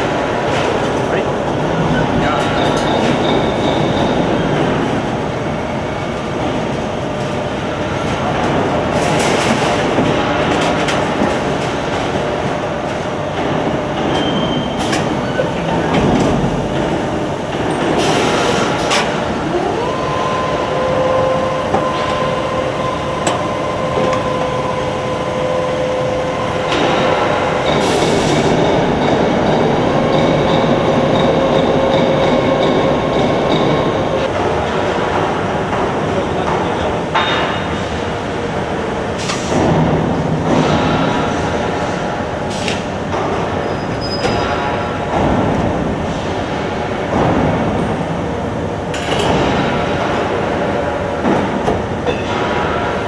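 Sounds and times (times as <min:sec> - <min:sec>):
machinery clatter and rumble: 0:00.0 - 0:53.0.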